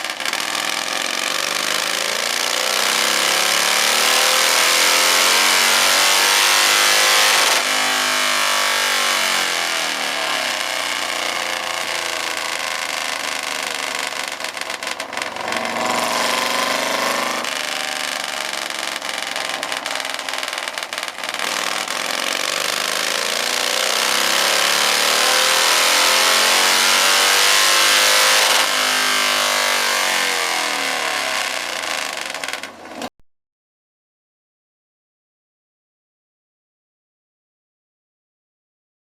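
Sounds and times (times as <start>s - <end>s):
motorcycle engine revving: 0.0s - 33.1s.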